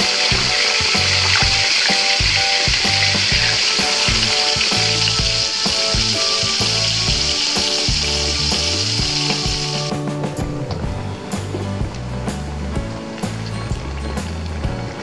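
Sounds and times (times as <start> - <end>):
food deep-frying in oil: 0.0 - 10.0, 11.3 - 15.0
background music with bass line: 0.0 - 15.0.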